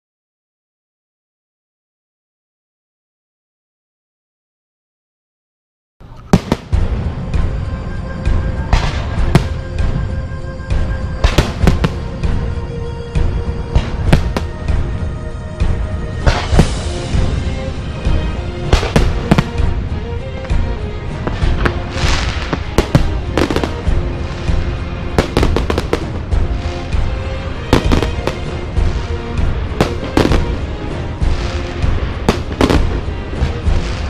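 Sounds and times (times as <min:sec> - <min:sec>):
music: 0:06.0 - 0:34.0
fireworks bursting: 0:06.1 - 0:34.0.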